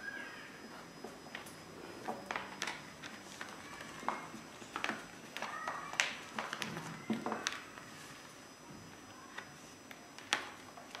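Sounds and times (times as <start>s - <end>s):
faint children's voices: 0.0s - 0.8s, 2.8s - 11.0s
pencils and pages tapping on table: 1.0s - 8.0s, 8.8s - 11.0s.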